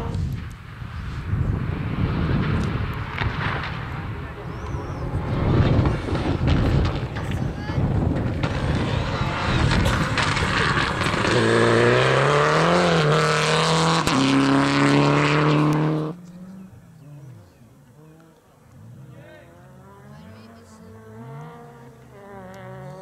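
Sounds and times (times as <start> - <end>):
rally car engine at high revs: 1.6 - 7.4, 8.0 - 23.0.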